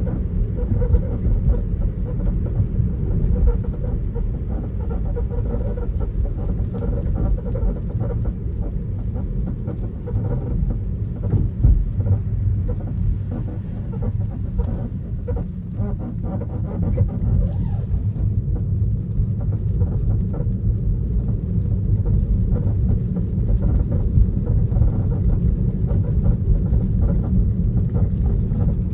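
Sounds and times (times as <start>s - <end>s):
road and tyre rumble: 0.0s - 28.9s.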